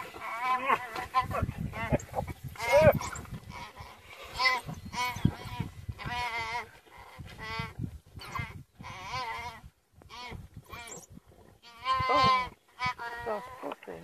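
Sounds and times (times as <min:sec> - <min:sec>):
antelope bleating in distress: 0:00.0 - 0:14.0.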